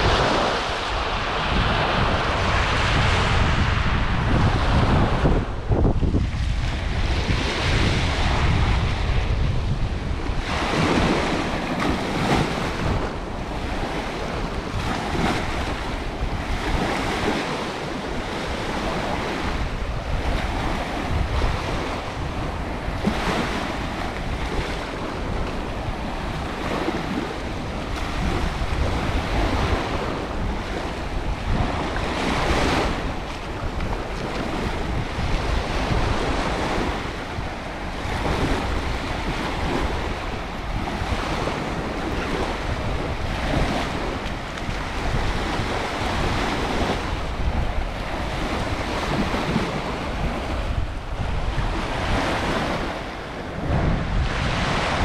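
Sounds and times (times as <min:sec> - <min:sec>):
surf washing on beach: 0:00.0 - 0:55.0
wind rumble on microphone: 0:00.0 - 0:55.0.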